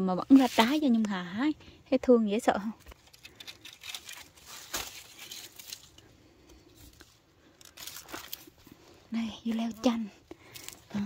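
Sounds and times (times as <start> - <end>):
leaves rustling and crinkling: 0.0 - 1.2, 2.6 - 11.0.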